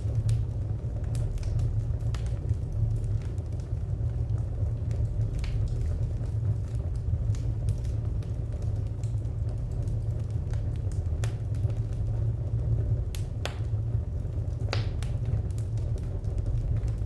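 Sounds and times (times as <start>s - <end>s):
low rumble: 0.0s - 17.0s
wood fire crackling: 0.0s - 17.0s.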